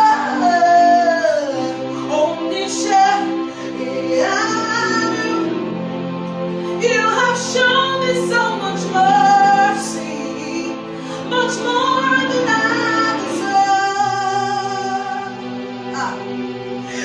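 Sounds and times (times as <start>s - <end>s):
woman singing worship song: 0.0s - 5.8s, 6.6s - 17.0s
instrumental accompaniment: 0.0s - 17.0s.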